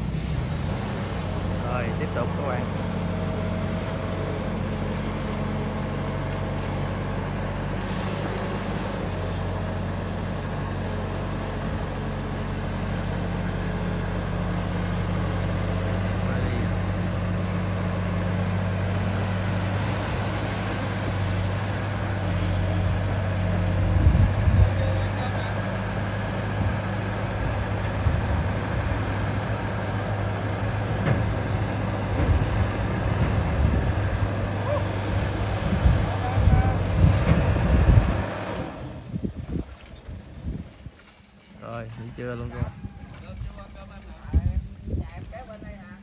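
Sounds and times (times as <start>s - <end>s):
excavator diesel engine running: 0.0s - 39.4s
hydraulics working: 0.0s - 45.8s.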